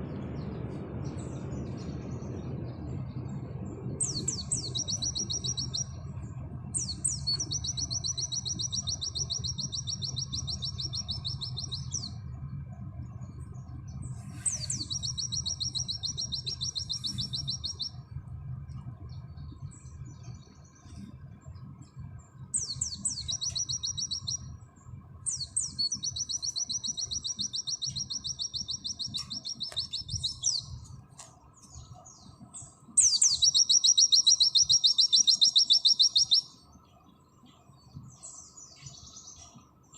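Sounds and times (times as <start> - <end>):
bird singing fast trills: 0.0 - 18.2, 19.0 - 39.9
steady low hum: 0.0 - 39.9.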